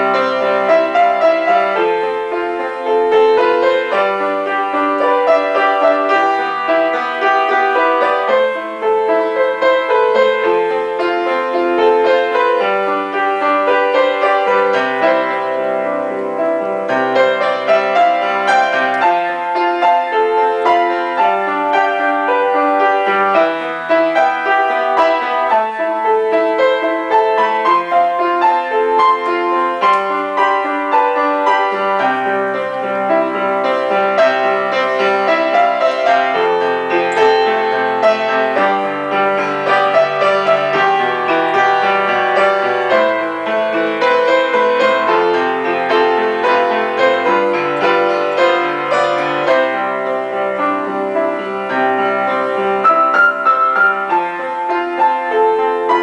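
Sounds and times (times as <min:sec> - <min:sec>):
solo piano playing: 0:00.0 - 0:56.0.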